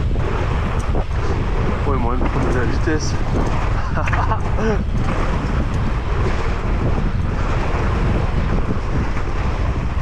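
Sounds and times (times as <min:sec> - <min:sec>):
mountain bike descending trail: 0:00.0 - 0:09.8
wind rushing over microphone: 0:00.0 - 0:10.0.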